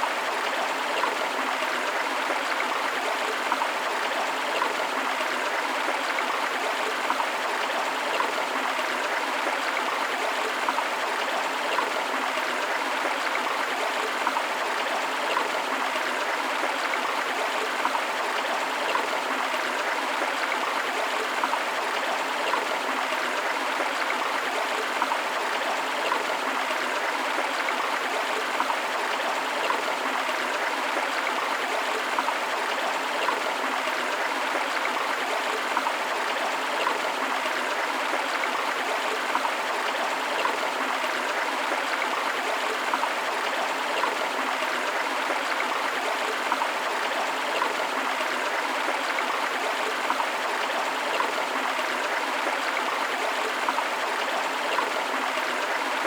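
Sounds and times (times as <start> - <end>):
waterfall: 0.0 - 56.0.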